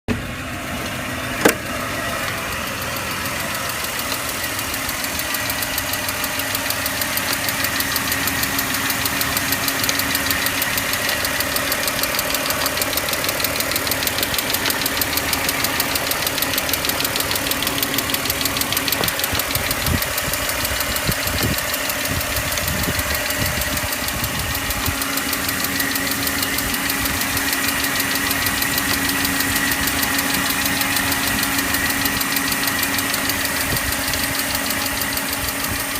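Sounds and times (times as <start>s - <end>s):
car engine ticking: 0.1s - 35.9s.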